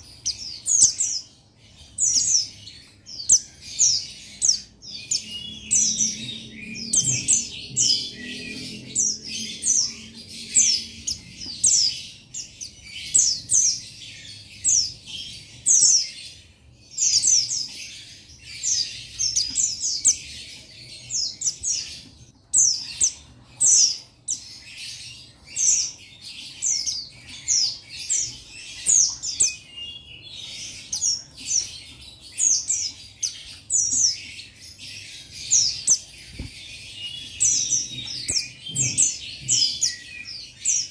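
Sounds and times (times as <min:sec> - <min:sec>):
bird chirping song: 0:00.0 - 0:40.9.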